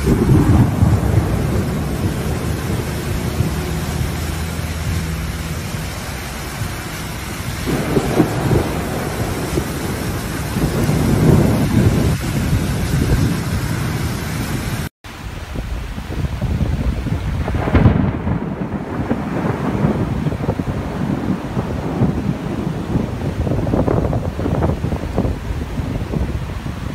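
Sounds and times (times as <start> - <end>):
rain rushing: 0.0 - 26.9
thunder rumbling: 0.0 - 26.9.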